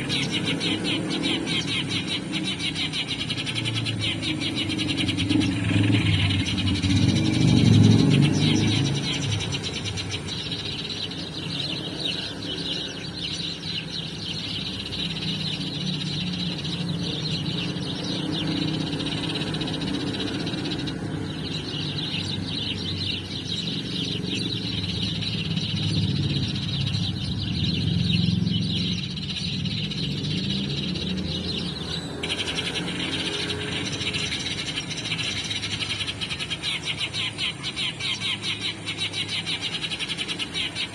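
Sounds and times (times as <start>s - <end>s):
sparrow chirping: 0.0s - 40.9s.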